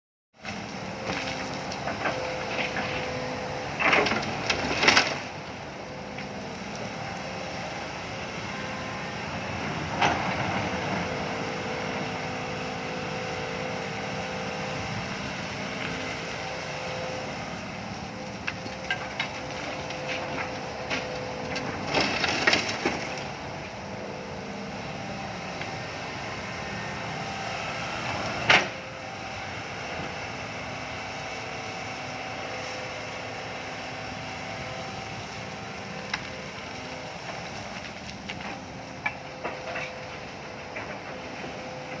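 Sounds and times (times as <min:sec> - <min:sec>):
diesel excavator engine running: 0:00.4 - 0:42.0.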